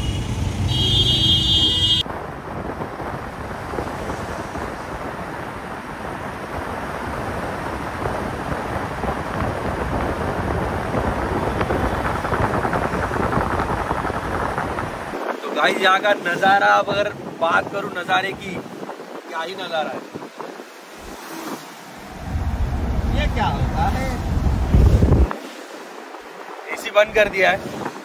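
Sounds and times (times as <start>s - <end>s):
road noise: 0.0s - 28.0s
roadside traffic: 0.0s - 28.0s
wind rushing over microphone: 0.0s - 28.0s.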